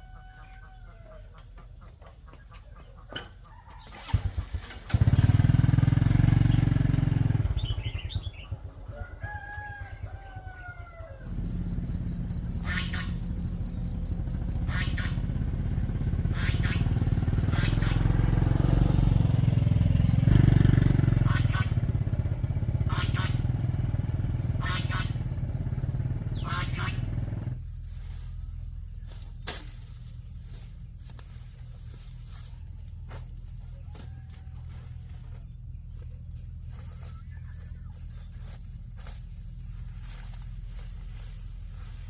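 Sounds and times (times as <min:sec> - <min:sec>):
engine running: 0:03.9 - 0:08.9, 0:11.3 - 0:42.0.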